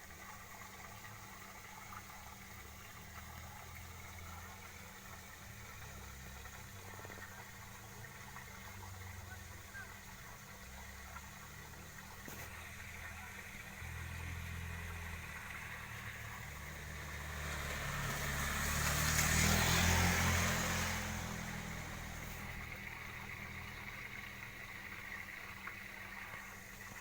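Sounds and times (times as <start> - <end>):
vehicle passing by: 2.0 - 27.0.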